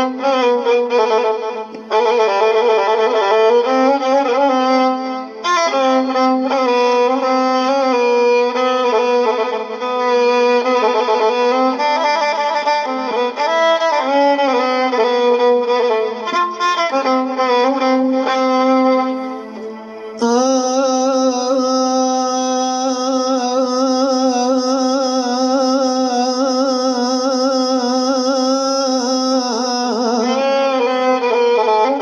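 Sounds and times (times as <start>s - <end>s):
solo violin melody: 0.0s - 32.0s.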